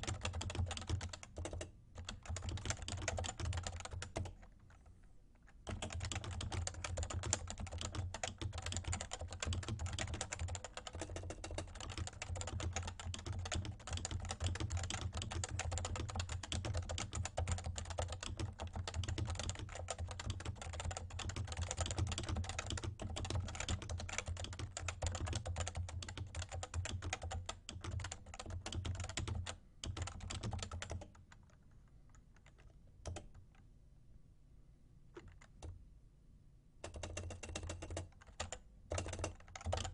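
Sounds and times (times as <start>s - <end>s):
fast keyboard typing: 0.0s - 4.9s, 5.6s - 33.4s, 35.2s - 35.8s, 36.8s - 39.9s.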